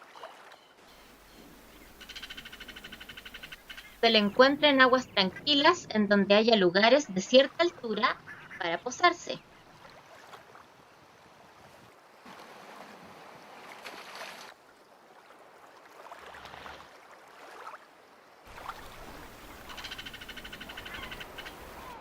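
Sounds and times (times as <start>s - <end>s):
faint outdoor water ambience: 0.0s - 22.0s.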